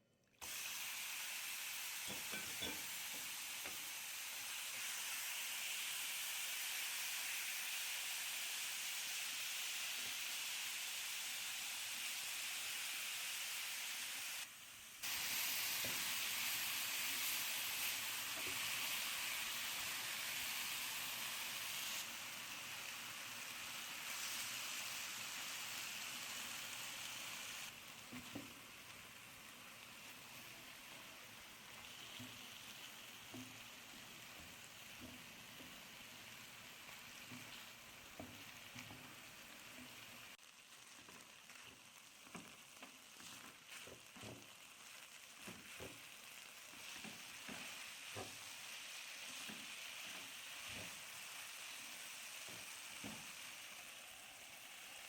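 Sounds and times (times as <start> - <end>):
food sizzling in a pan: 0.4 - 55.0
utensil stirring a pan: 1.9 - 7.4, 14.3 - 55.0.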